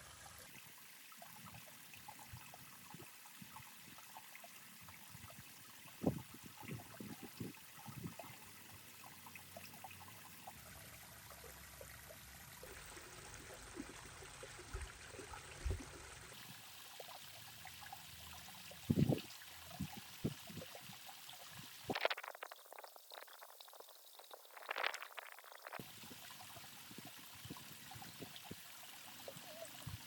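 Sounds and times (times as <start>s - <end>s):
water trickling and pouring: 0.0s - 30.0s.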